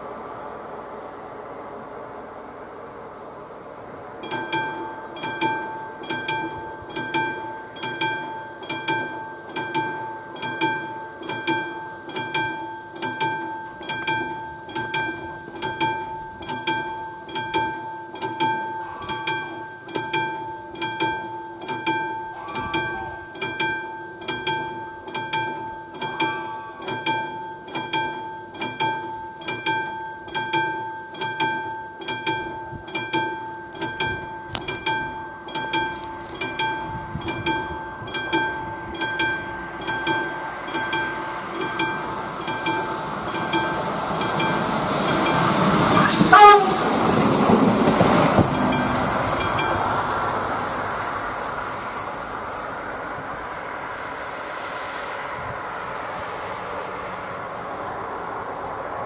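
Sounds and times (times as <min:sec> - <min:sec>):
level crossing warning bell: 0:04.2 - 0:54.2.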